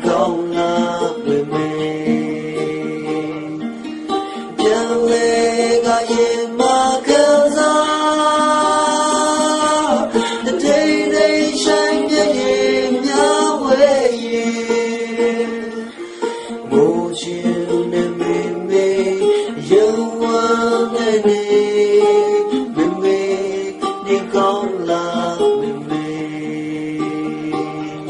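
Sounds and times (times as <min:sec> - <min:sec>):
person singing long notes: 0:00.0 - 0:28.0
plucked guitar: 0:00.0 - 0:28.0.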